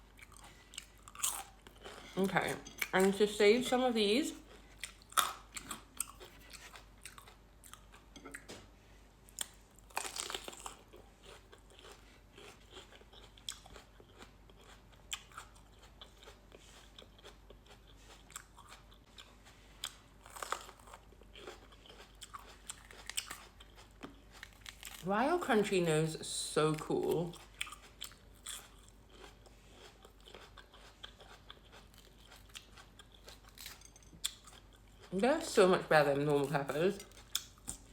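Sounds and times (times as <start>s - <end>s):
person chewing crunchy food: 0.0s - 3.0s, 4.4s - 25.1s, 27.0s - 35.2s, 37.0s - 37.9s.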